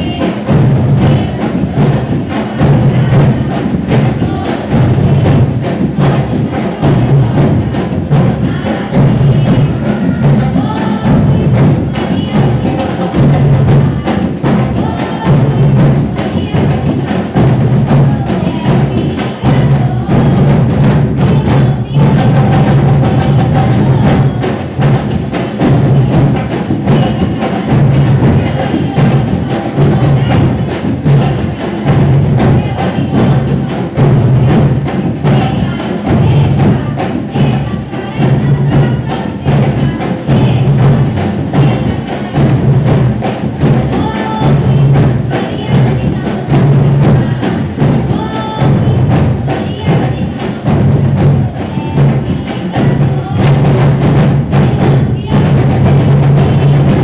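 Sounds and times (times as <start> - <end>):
person singing: 0.0 - 25.0, 25.9 - 57.0
loud percussion beat: 0.0 - 57.0.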